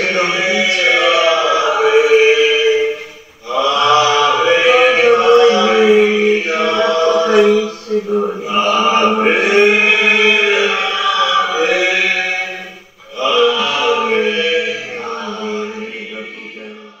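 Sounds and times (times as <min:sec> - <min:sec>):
chanted singing: 0:00.0 - 0:17.0.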